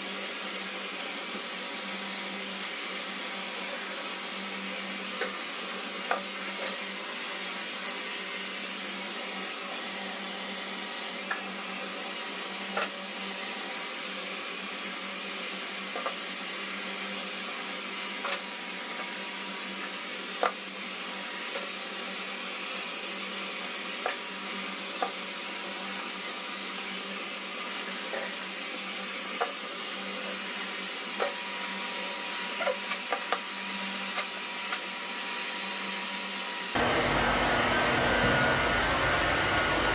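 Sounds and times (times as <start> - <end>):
motor running with low hum: 0.0 - 39.9.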